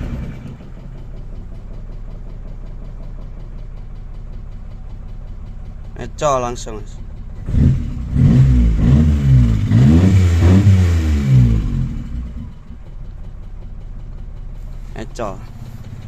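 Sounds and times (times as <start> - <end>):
car engine revving: 0.0 - 4.9, 5.9 - 16.0
car engine idling: 0.0 - 16.0.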